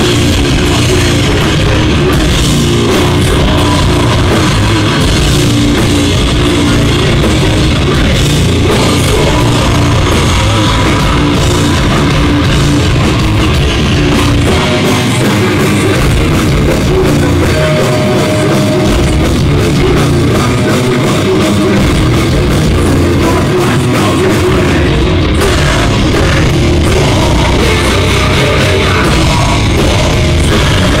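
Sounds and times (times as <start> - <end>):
bass guitar: 0.0 - 31.0
drum kit: 0.0 - 31.0
electric guitar: 0.0 - 31.0.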